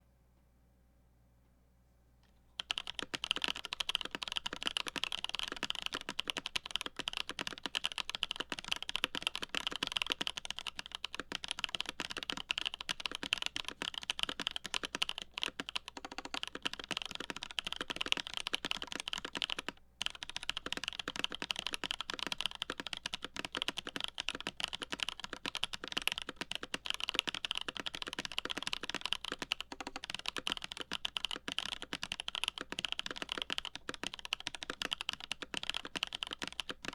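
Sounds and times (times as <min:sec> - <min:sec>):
mechanical keyboard typing: 0:02.6 - 0:36.9.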